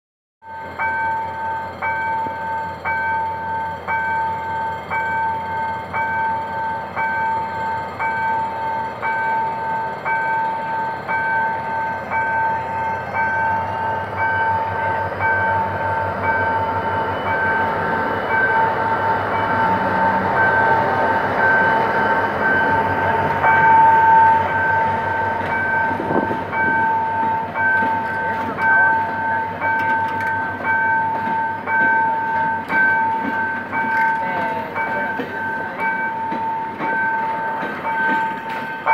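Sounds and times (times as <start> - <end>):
diesel locomotive rumble: 0.4 - 38.9
level crossing warning bells: 0.4 - 38.9
train wheel noise: 0.4 - 38.9.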